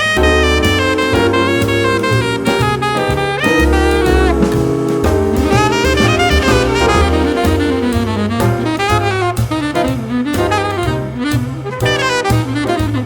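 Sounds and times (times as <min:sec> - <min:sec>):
bass: 0:00.0 - 0:13.0
drum kit: 0:00.0 - 0:13.0
saxophone solo: 0:00.0 - 0:13.0.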